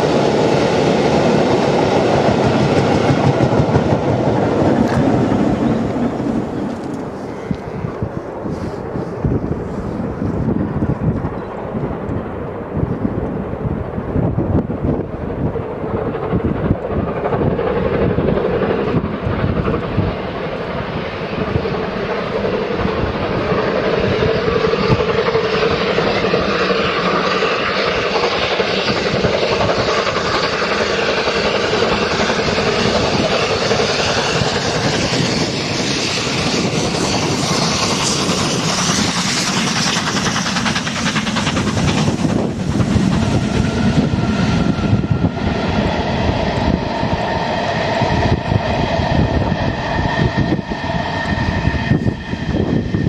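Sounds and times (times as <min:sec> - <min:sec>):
coaches rumbling over rails: 0:00.0 - 0:53.0
steam locomotive exhaust beating: 0:00.0 - 0:53.0.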